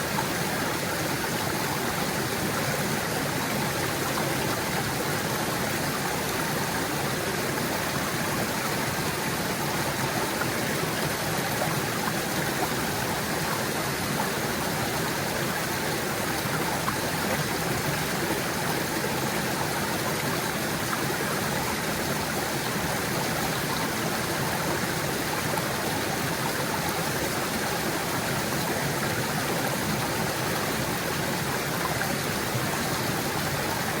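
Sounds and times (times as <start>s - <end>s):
stream gurgling over rocks: 0.0s - 34.0s.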